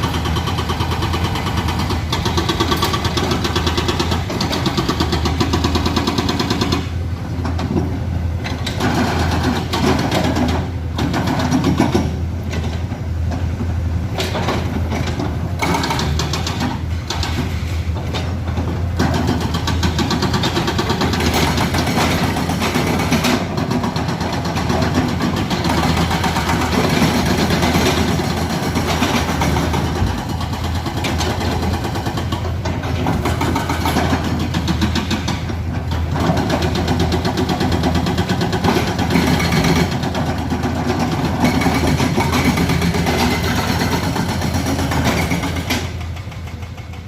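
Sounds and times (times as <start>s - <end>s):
excavator diesel engine under load: 0.0s - 47.0s.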